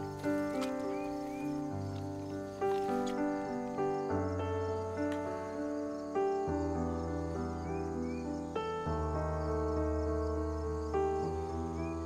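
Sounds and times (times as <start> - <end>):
music of slow held chords: 0.0 - 12.0.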